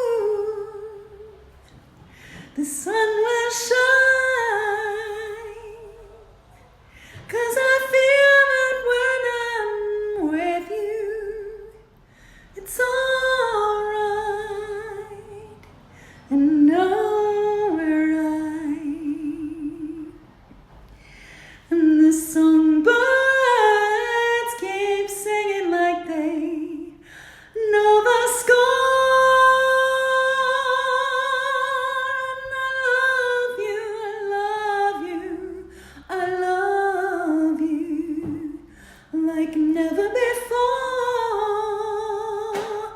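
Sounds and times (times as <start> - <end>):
woman singing unaccompanied: 0.0 - 1.5, 2.5 - 6.4, 7.2 - 11.9, 12.6 - 15.7, 16.3 - 20.3, 21.7 - 42.9.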